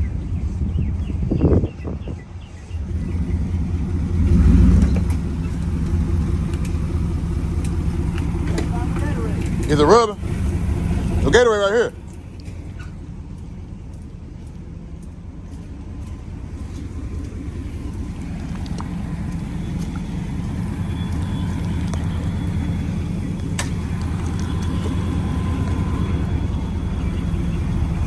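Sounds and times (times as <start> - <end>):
truck engine humming: 0.0 - 28.0.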